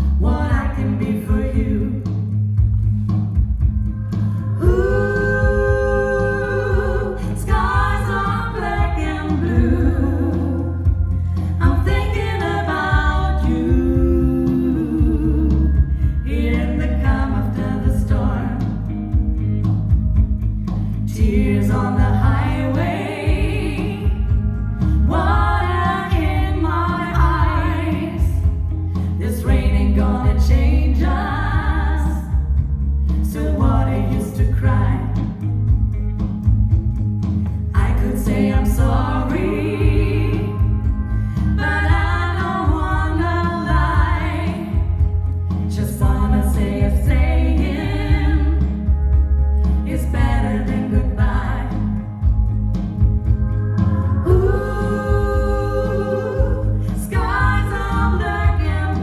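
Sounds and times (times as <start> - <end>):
voices singing in harmony: 0.0 - 2.7, 4.1 - 19.8, 20.7 - 35.8, 37.5 - 59.0
steady low bass: 0.0 - 59.0.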